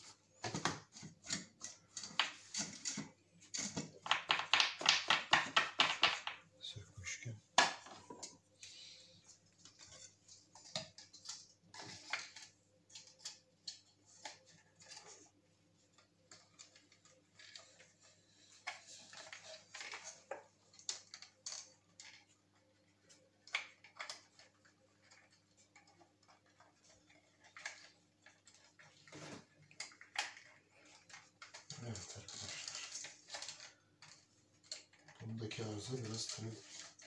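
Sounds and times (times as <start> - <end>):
small clicks taps and scrapes: 0.0 - 6.5, 9.2 - 37.0.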